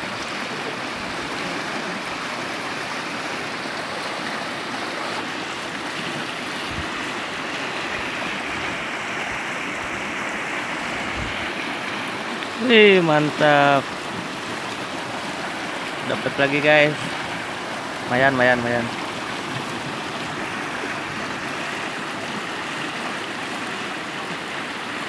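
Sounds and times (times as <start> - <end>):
river current rushing: 0.0 - 25.0.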